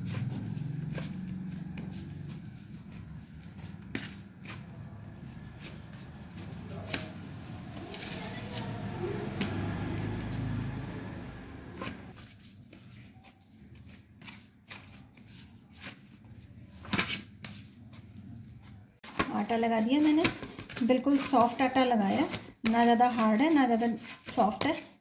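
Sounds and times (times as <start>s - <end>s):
hands kneading dough: 0.0s - 25.0s.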